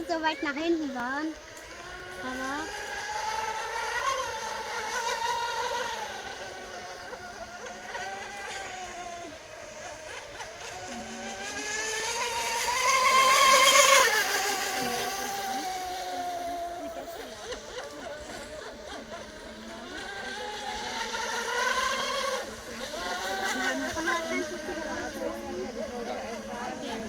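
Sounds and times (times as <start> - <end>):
model boat motor whining: 0.0 - 27.0.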